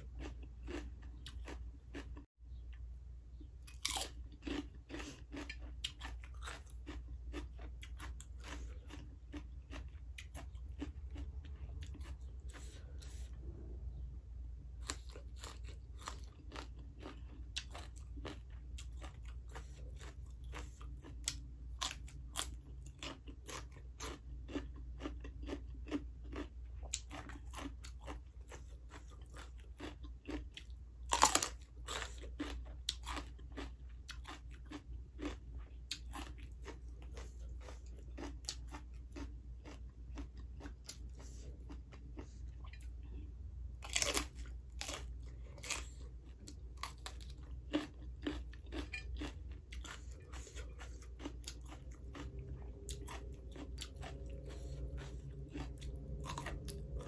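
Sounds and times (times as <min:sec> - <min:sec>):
crunching raw vegetables: 0:00.0 - 0:02.8, 0:03.4 - 0:57.0.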